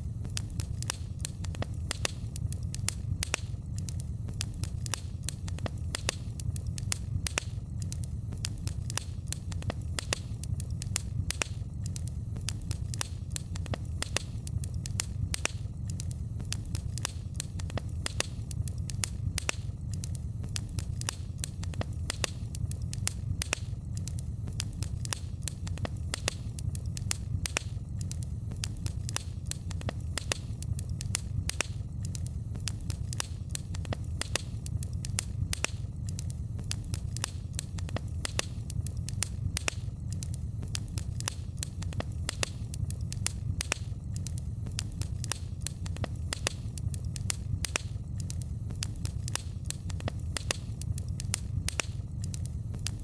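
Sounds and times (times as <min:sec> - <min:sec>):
fire crackling in fireplace: 0:00.0 - 0:53.0.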